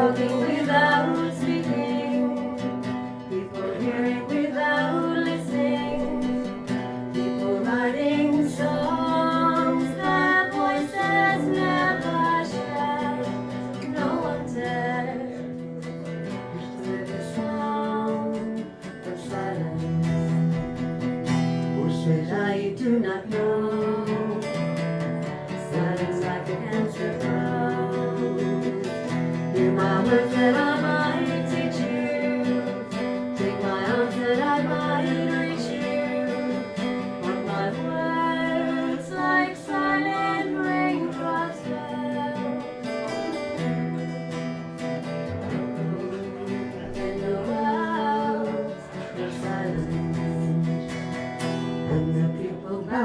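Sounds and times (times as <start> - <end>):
person singing: 0.0 - 15.6, 16.2 - 21.0, 21.6 - 53.0
acoustic guitar chords: 0.0 - 53.0.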